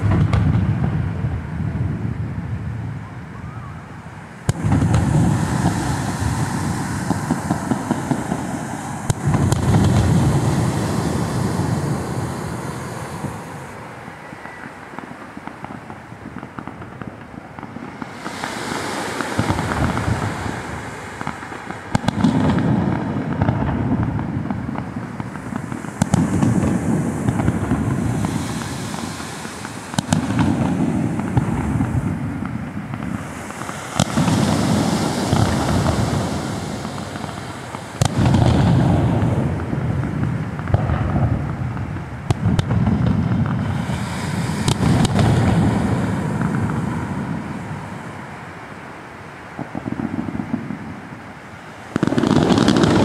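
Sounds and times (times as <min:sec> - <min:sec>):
fireworks booming: 0:00.0 - 0:53.0
fireworks crackling and fizzing: 0:00.0 - 0:53.0.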